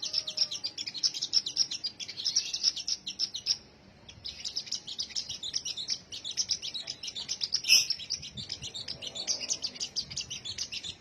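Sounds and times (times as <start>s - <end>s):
songbird twittering: 0.0s - 11.0s.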